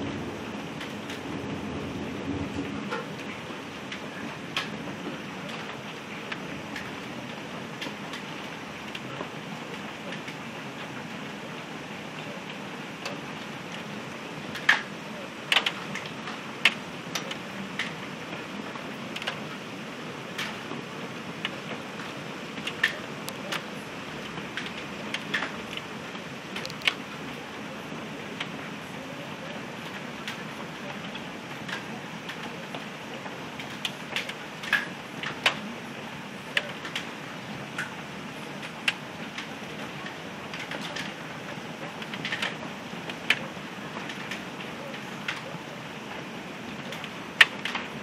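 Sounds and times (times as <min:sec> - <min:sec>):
heavy rain downpour: 0:00.0 - 0:48.0
hailstones clicking: 0:02.5 - 0:11.0, 0:12.5 - 0:19.6, 0:20.3 - 0:35.7, 0:36.4 - 0:48.0.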